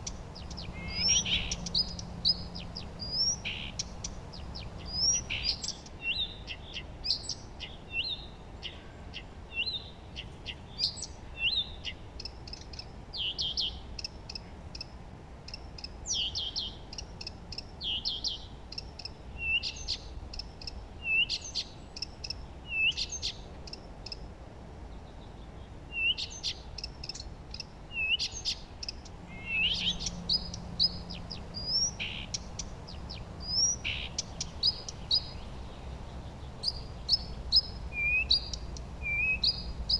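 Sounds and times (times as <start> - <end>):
songbirds chirping and singing: 0.0 - 13.9, 16.0 - 24.2, 25.1 - 39.9
soft background hiss: 0.0 - 39.9.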